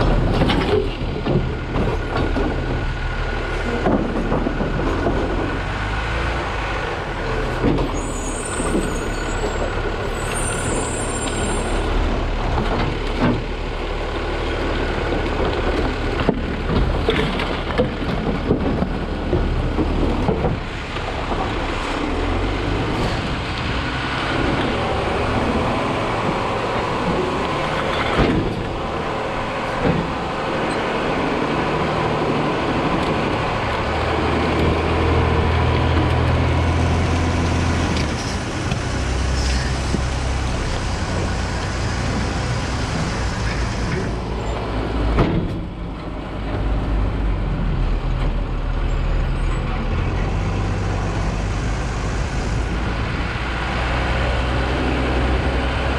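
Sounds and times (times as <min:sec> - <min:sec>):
garbage truck engine running: 0:00.0 - 0:55.9.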